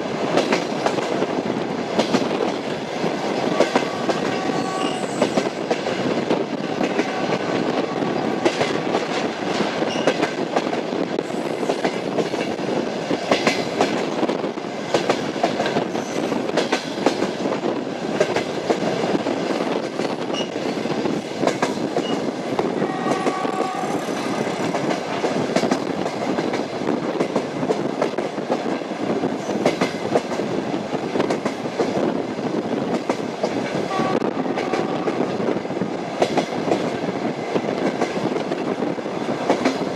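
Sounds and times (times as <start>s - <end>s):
train rumble: 0.0s - 39.9s
train wheels clicking over rails: 0.0s - 39.9s.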